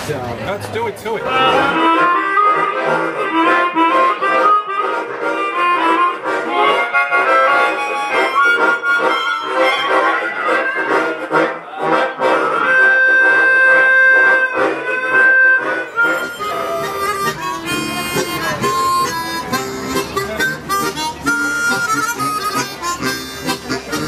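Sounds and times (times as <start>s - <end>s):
harmonica trio playing: 1.0s - 24.0s.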